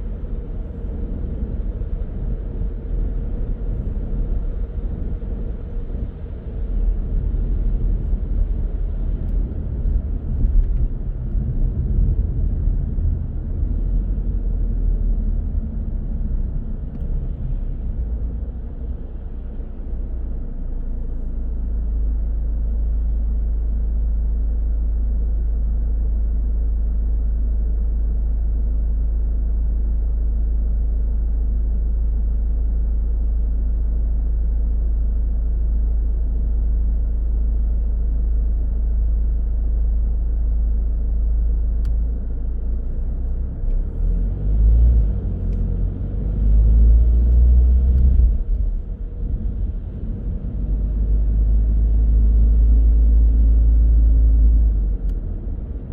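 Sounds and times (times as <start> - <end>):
car engine and tyres rumbling: 0.0 - 55.9.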